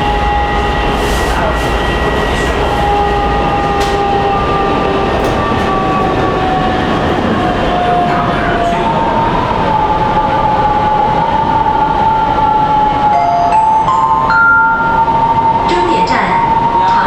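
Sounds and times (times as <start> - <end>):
train rumble in tunnel: 0.0 - 17.0.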